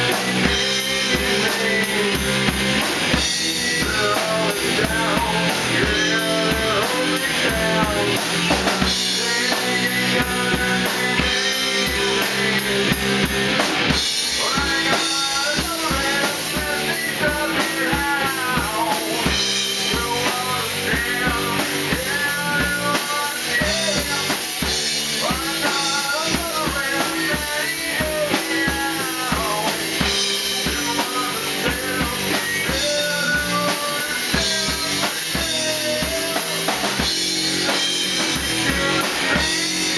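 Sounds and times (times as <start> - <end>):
drum kit: 0.0 - 39.9
electric bass: 0.0 - 39.9
electric guitar: 0.0 - 39.9
man singing: 0.0 - 39.9.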